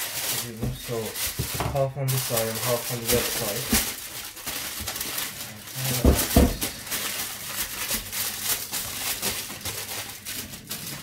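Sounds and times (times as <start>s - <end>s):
kitchen foil crinkling: 0.0s - 11.0s.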